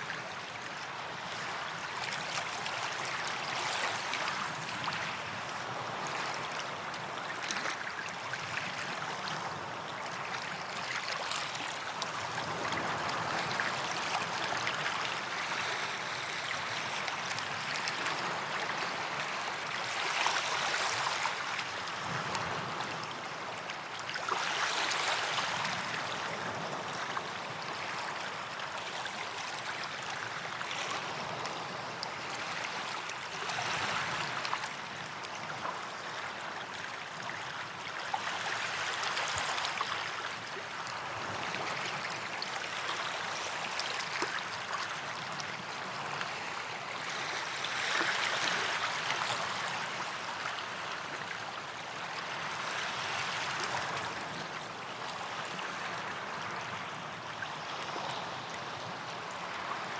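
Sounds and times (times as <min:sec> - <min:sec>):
small waves washing onto beach: 0:00.0 - 0:59.9.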